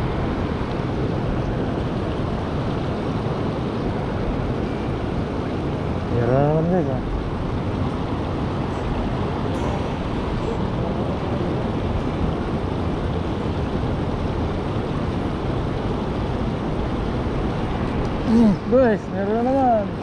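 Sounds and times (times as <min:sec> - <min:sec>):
water rushing over a weir: 0:00.0 - 0:20.0.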